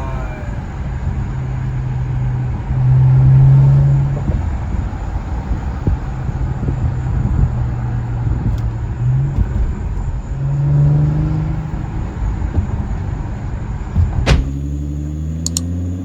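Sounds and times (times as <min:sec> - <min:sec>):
car engine and exhaust droning: 0:00.0 - 0:16.0.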